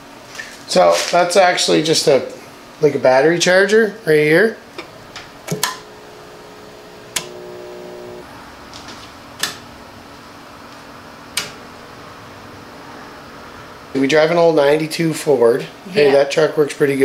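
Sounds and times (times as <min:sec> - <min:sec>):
electrical hum: 0:00.2 - 0:17.0.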